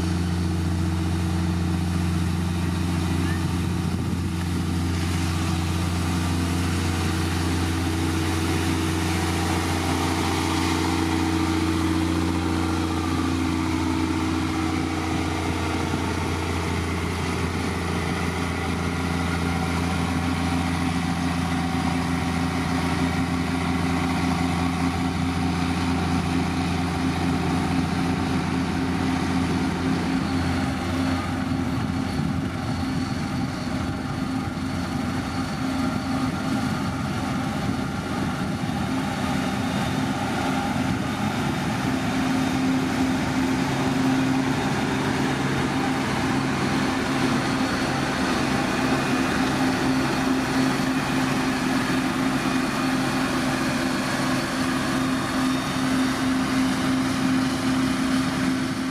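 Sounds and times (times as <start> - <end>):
diesel engine droning: 0.0 - 58.9.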